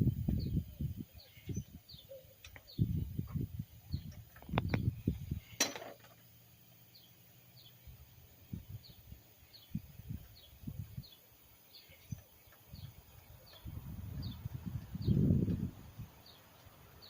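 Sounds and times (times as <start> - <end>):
bird chirping: 0.2 - 5.6, 6.7 - 17.0.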